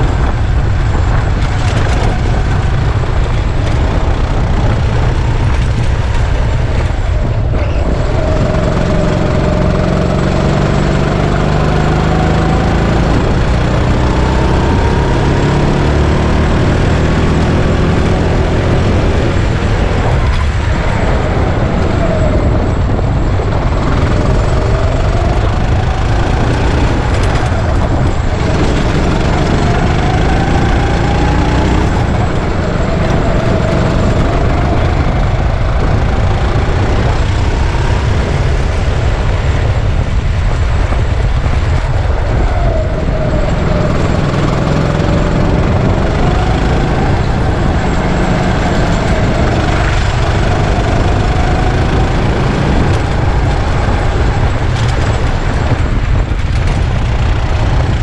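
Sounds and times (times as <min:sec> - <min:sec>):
go-kart engine revving: 0:00.0 - 0:58.0
loud low rumble: 0:00.0 - 0:58.0.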